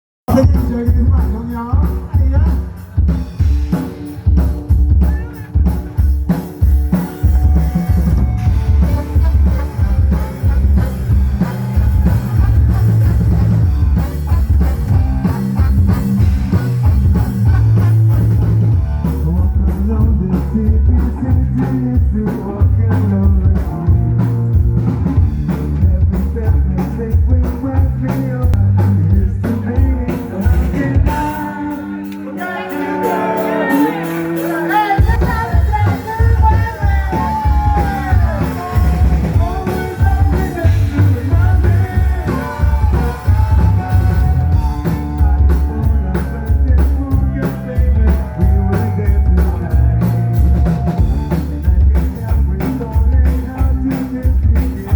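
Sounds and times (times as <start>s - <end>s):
rock music with drums and guitar: 0.3s - 54.9s.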